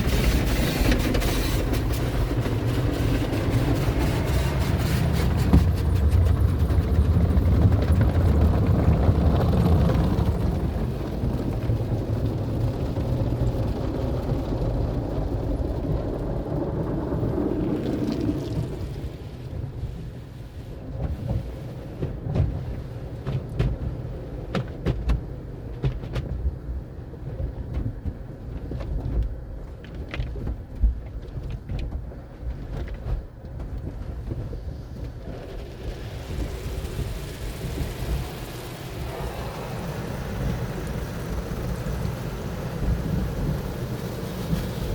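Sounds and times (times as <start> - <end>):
car wash spray and machinery: 0.0 - 28.9, 33.7 - 44.9.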